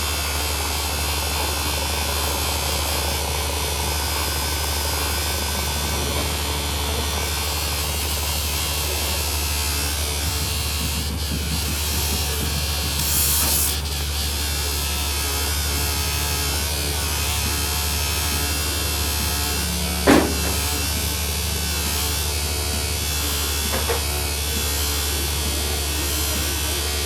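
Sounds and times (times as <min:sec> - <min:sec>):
machinery electric buzz: 0:00.0 - 0:27.0.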